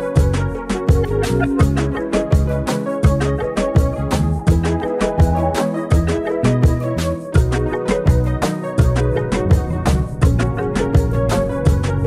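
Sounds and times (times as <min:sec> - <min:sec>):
instrumental music with drum beat: 0:00.0 - 0:12.0
bass line: 0:00.2 - 0:12.0.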